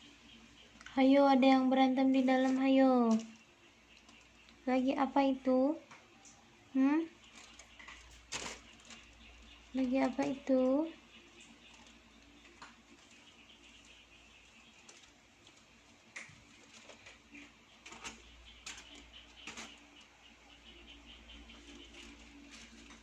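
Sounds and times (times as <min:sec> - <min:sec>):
faint low hum: 0:00.0 - 0:23.0
kittens scratching and scuffling: 0:02.0 - 0:04.7, 0:07.1 - 0:23.0.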